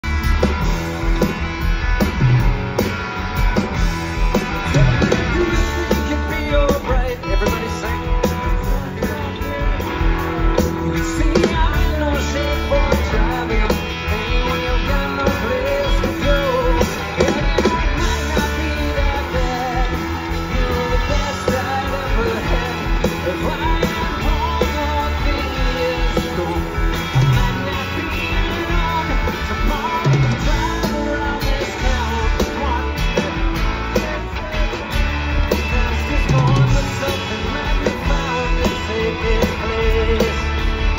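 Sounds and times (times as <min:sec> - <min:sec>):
bass guitar: 0:00.0 - 0:40.9
drums: 0:00.0 - 0:40.9
electric guitars: 0:00.0 - 0:40.9
man singing: 0:04.3 - 0:40.9.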